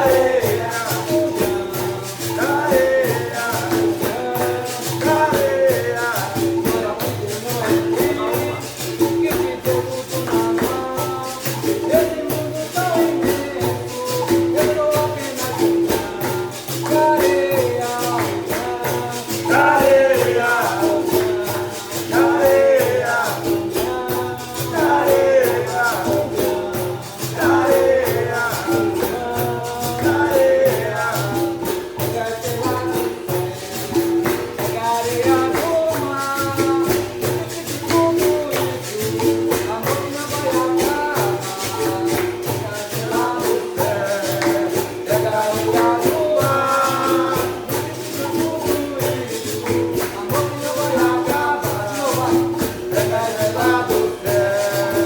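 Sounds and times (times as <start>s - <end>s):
berimbau: 0.0s - 55.0s
shaker rattle: 0.0s - 55.0s
tambourine rhythm: 0.0s - 55.0s
voices singing: 0.0s - 55.0s.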